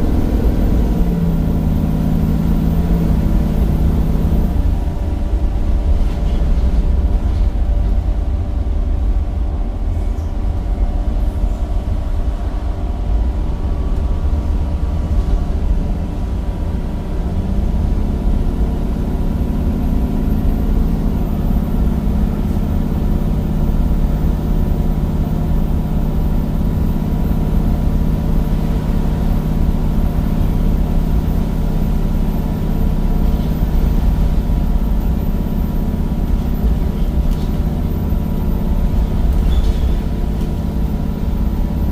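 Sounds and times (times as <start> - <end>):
bus diesel engine drone: 0.0 - 41.9.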